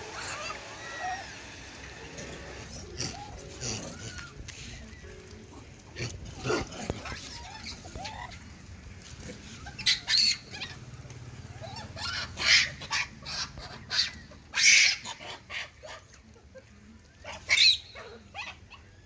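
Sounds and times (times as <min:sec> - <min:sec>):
monkeys calling in harsh bursts: 0:00.0 - 0:04.9, 0:07.0 - 0:08.5, 0:09.5 - 0:16.6, 0:17.2 - 0:19.0.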